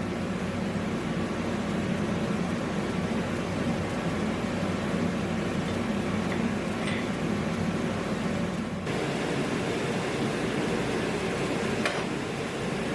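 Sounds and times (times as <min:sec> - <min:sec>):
mechanical running hum: 0:00.0 - 0:12.9.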